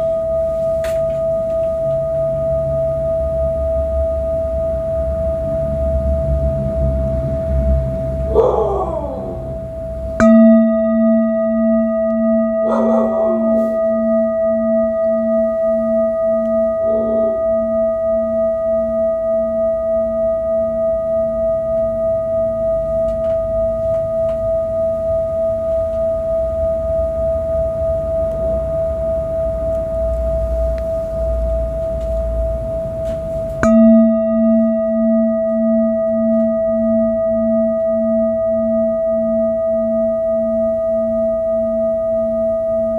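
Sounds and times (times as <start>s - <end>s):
metal singing bowl ringing: 0.0s - 8.3s, 9.2s - 42.9s.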